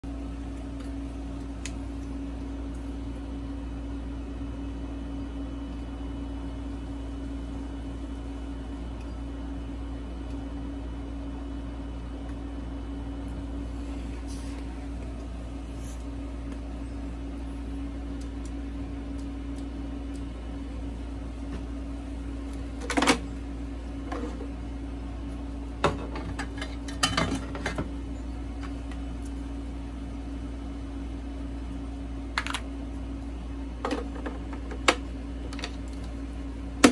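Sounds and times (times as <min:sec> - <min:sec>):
low electrical hum: 0:00.0 - 0:36.9.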